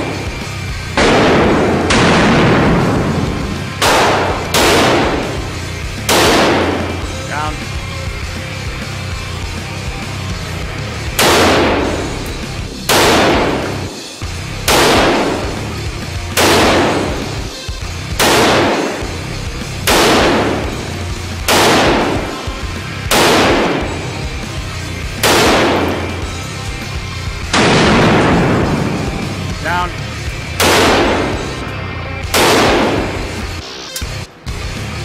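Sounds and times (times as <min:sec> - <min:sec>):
rifle shots echoing indoors: 0:00.0 - 0:07.3, 0:11.0 - 0:26.7, 0:27.4 - 0:33.6.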